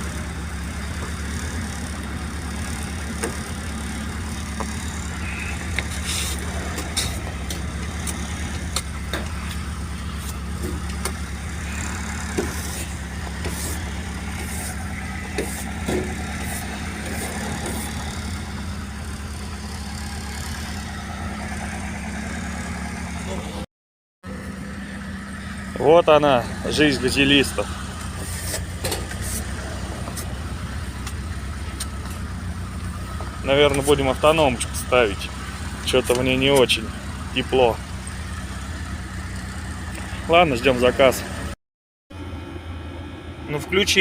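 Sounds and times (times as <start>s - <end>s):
van engine idling: 0.0s - 44.0s.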